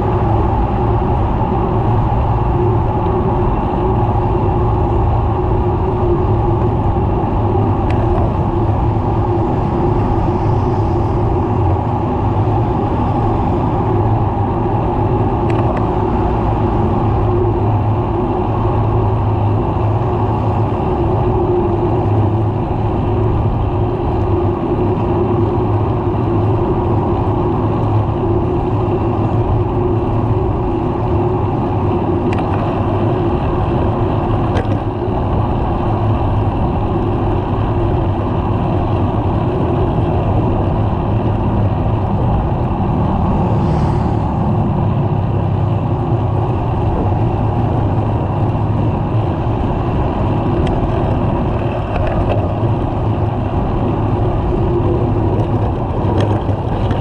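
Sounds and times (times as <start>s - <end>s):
highway traffic passing: 0.0s - 57.0s.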